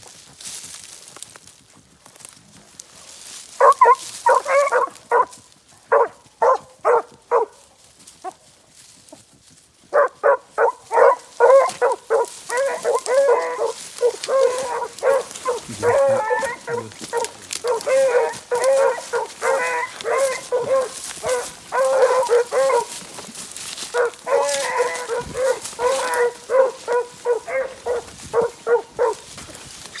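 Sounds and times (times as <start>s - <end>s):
hounds yelping: 3.5s - 8.4s, 9.9s - 30.0s.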